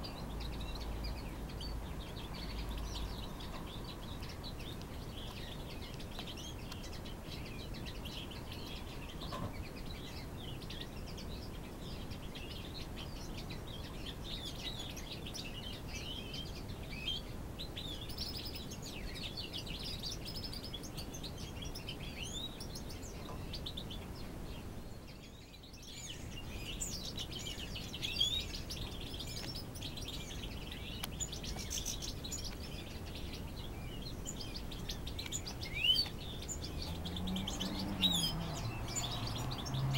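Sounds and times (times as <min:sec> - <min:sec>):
finches chirping and twittering: 0:00.0 - 0:39.9
low background noise: 0:00.0 - 0:39.9.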